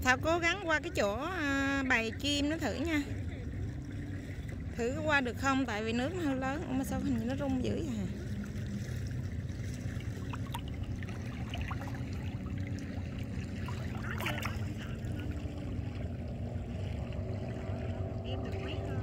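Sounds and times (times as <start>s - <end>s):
steady low rumble: 0.0s - 19.0s
water trickling and lapping: 0.0s - 19.0s.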